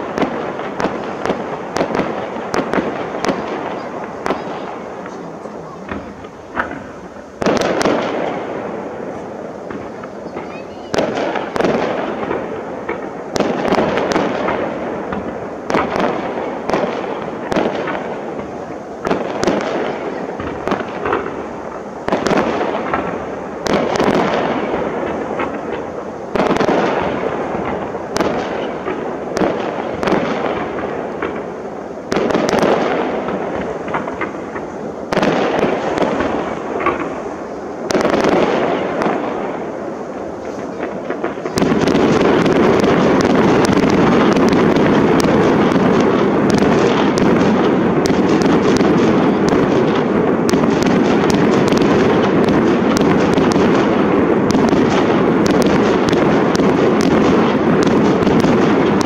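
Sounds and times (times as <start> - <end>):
firework shells bursting: 0.0 - 59.0.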